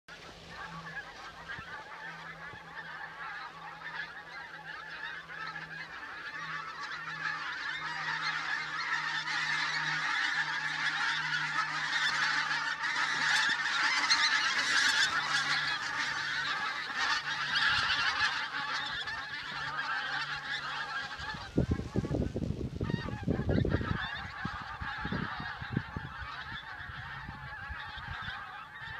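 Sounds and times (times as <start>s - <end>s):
geese honking: 0.1s - 28.9s.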